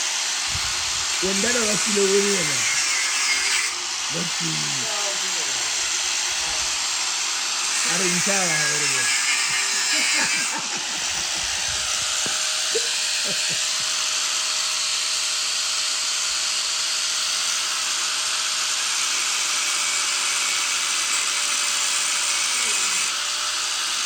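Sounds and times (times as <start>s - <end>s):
small power tool running: 0.0s - 24.0s.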